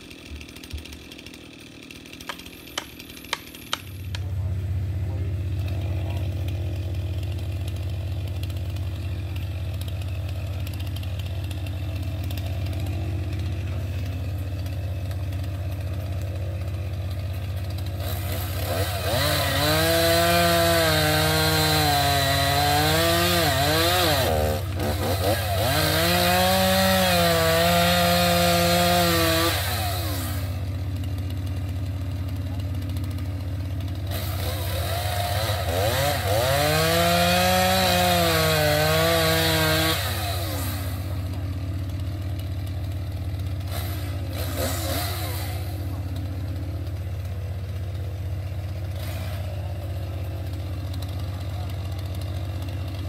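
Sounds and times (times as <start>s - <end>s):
chainsaw cutting wood: 0.0s - 53.0s
chainsaw idling: 0.0s - 53.0s.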